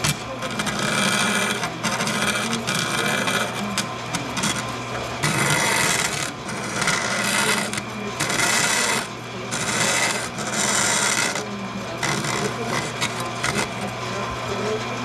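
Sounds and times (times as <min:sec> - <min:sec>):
bandsaw blade rasping metal: 0:00.0 - 0:13.9
bandsaw motor humming: 0:00.0 - 0:15.0.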